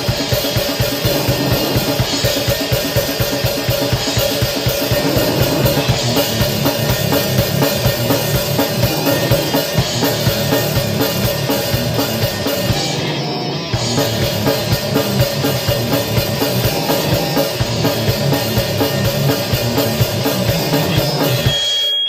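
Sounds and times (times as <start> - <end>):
rapid drum kit hits: 0.0 - 13.2, 13.8 - 21.9
distorted guitar and bass: 0.0 - 21.9.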